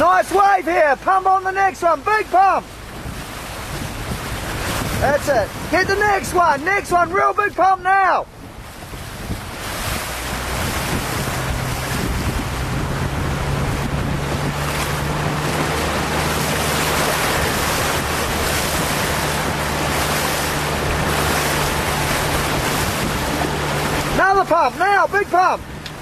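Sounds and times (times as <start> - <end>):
low engine hum: 0.0 - 26.0
waves breaking: 0.0 - 26.0
wind buffeting microphone: 0.0 - 26.0.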